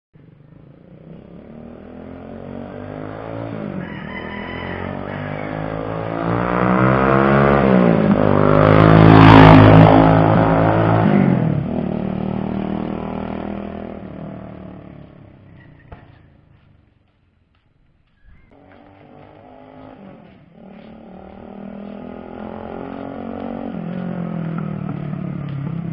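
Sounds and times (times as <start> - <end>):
car accelerating past: 0.8 - 15.3, 18.6 - 25.9.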